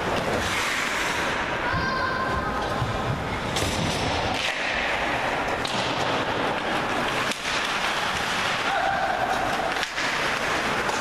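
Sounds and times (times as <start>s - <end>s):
arena noise: 0.0s - 11.0s
skate blades scraping on ice: 0.0s - 11.0s.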